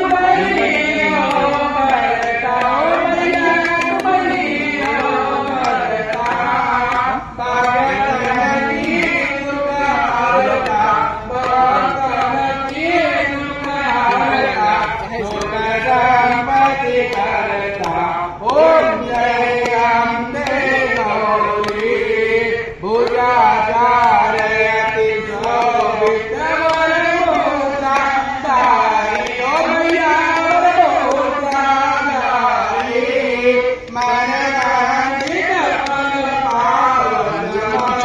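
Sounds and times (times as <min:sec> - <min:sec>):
person singing a hymn: 0:00.0 - 0:38.0.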